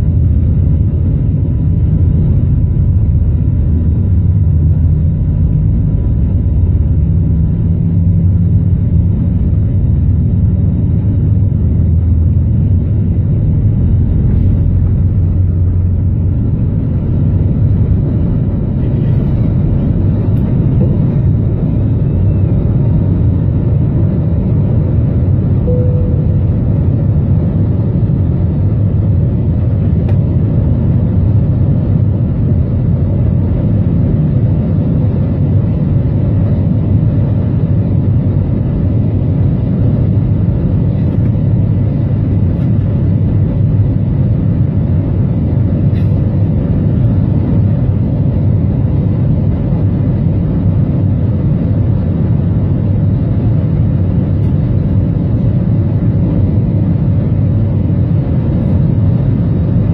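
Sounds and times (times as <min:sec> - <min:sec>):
aircraft cabin engine drone: 0:00.0 - 0:59.9
faint steady hum: 0:00.0 - 0:59.9.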